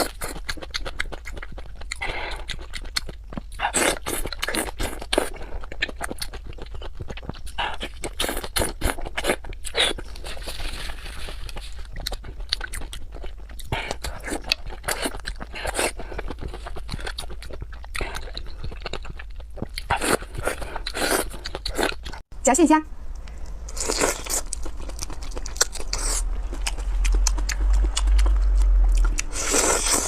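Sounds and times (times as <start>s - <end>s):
person chewing and crunching: 0.0s - 22.2s, 23.3s - 30.0s.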